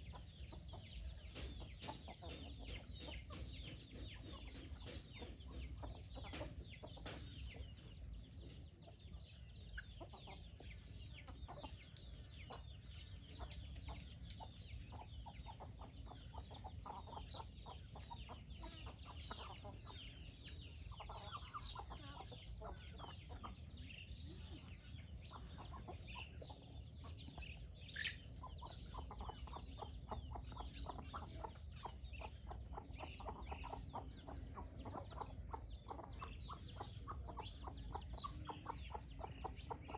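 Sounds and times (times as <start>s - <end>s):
chicks peeping: 0.0s - 39.9s
hens clucking: 0.0s - 39.9s.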